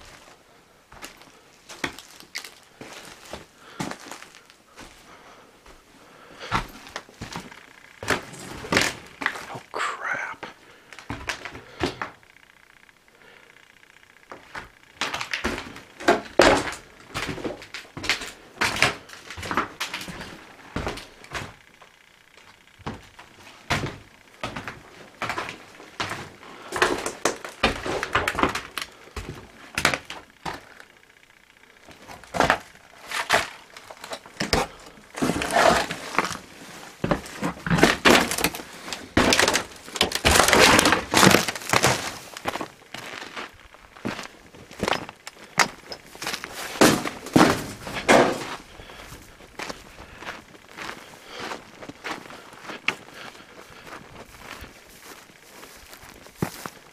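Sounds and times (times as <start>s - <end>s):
footsteps crunching on debris: 0.0s - 10.3s, 10.9s - 12.2s, 14.2s - 31.0s, 31.8s - 56.9s.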